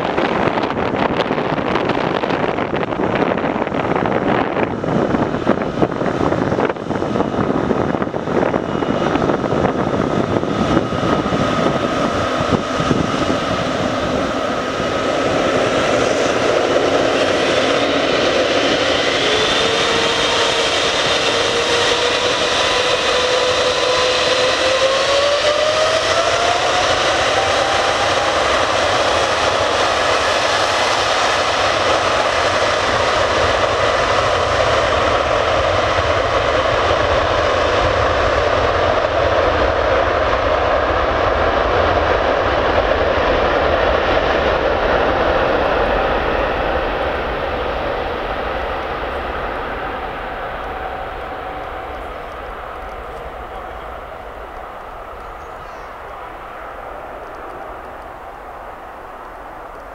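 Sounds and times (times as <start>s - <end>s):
engine whine rising in pitch: 0.0s - 59.9s
jet engine roar: 0.0s - 59.9s.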